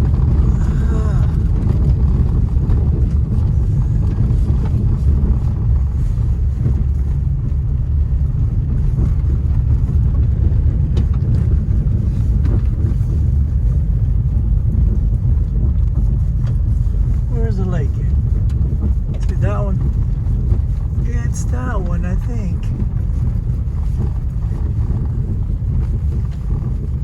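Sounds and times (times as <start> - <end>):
car rumbling over gravel: 0.0 - 27.0.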